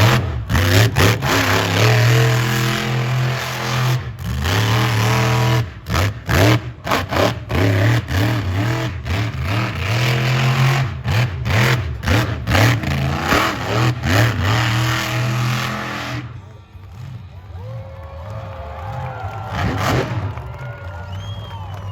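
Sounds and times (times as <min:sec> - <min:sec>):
truck engine revving: 0:00.0 - 0:17.8, 0:18.4 - 0:21.9.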